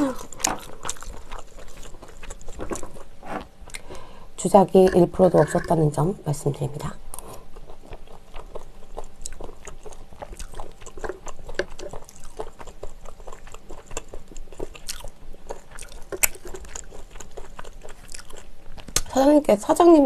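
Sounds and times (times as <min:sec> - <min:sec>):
chewing and wet mouth sounds: 0:00.0 - 0:04.1, 0:04.8 - 0:06.0, 0:07.1 - 0:19.2.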